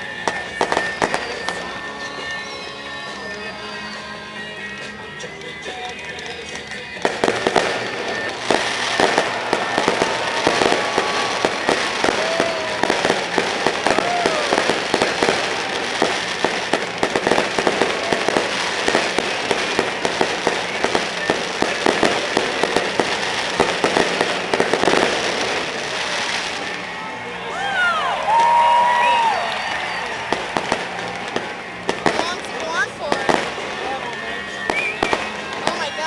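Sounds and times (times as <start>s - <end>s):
fireworks pops and crackles: 0.1s - 3.6s, 4.7s - 27.0s, 28.3s - 36.0s.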